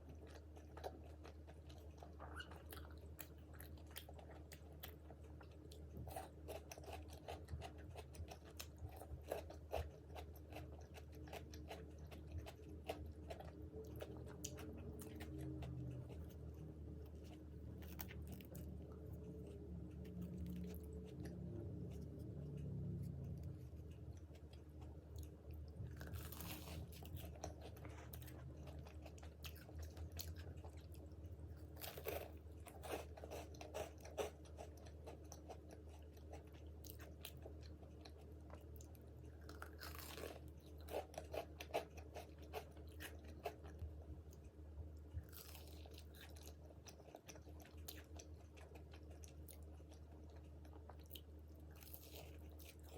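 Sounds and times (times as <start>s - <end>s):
crunching fried food: 0.0s - 52.9s
quiet chewing: 0.0s - 52.9s.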